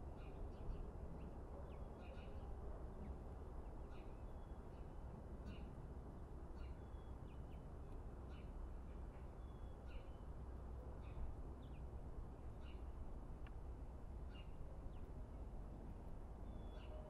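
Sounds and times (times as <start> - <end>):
faint low outdoor rumble: 0.0 - 17.0.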